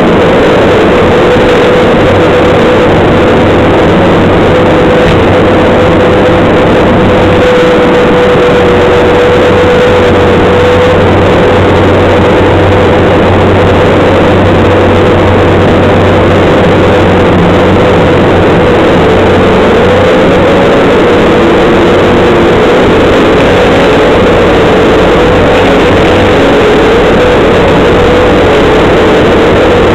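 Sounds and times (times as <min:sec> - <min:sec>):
skid steer loader engine running: 0:00.0 - 0:29.9
steady mechanical whine: 0:00.0 - 0:29.9.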